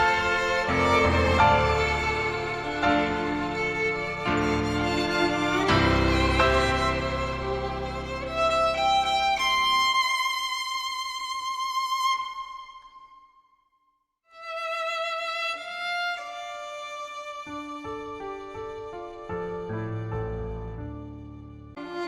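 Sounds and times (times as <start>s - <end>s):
violin playing slow melody: 0.0s - 13.2s, 14.3s - 22.0s.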